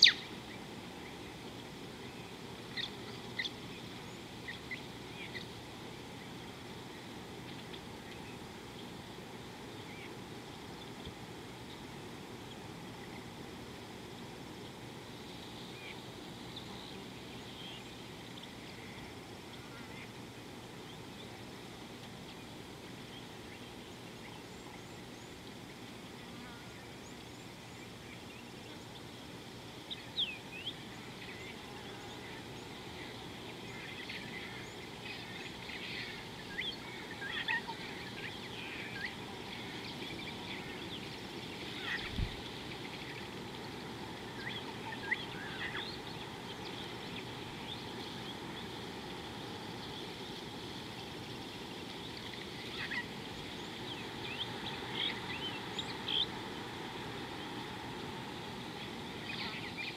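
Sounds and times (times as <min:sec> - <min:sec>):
outdoor background hiss: 0:00.0 - 0:59.9
wild birds calling: 0:00.0 - 0:59.9.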